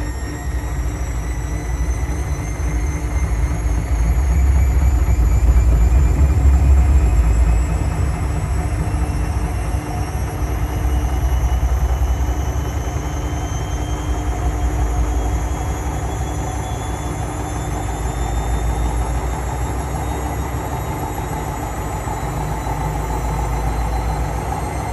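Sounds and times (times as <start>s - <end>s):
washing machine spinning: 0.0s - 24.9s.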